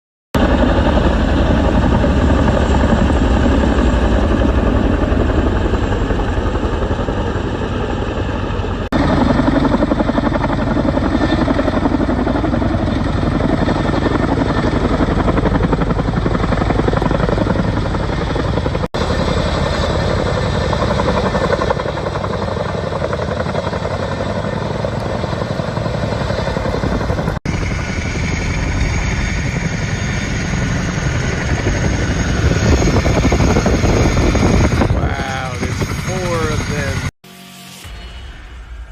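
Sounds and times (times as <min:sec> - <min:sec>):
helicopter rotors beating fast: 0:00.4 - 0:37.1.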